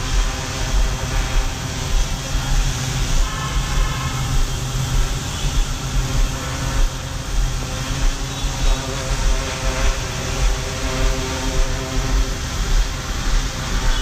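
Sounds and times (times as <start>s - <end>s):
drone propellers whirring: 0.0s - 14.0s
low rumble: 0.0s - 14.0s.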